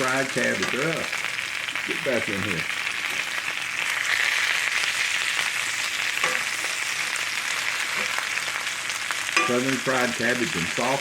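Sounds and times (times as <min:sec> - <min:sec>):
cabbage sizzling in a skillet: 0:00.0 - 0:11.0.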